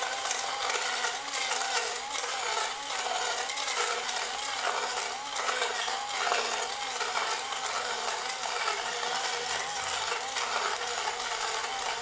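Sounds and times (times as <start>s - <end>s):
blender crushing ice: 0.0s - 12.0s.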